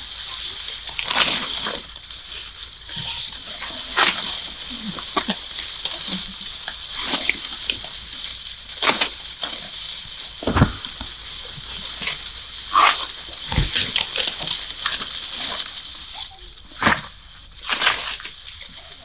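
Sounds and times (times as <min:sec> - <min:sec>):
corn plants rustling and snapping: 0:00.0 - 0:19.0.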